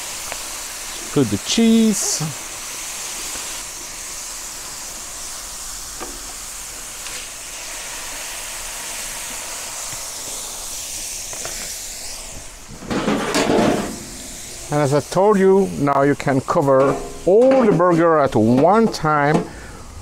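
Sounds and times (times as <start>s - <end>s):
burger patties sizzling on griddle: 0.0s - 20.0s.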